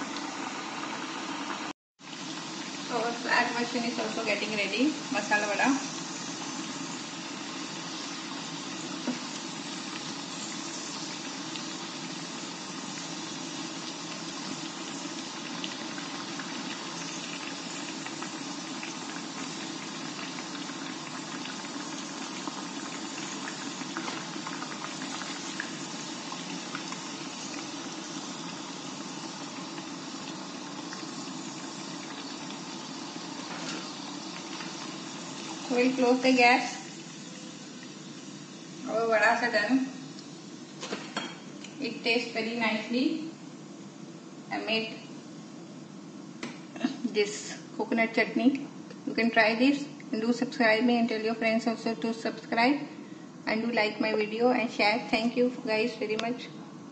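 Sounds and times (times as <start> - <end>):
food deep-frying in oil: 0.0 - 56.9.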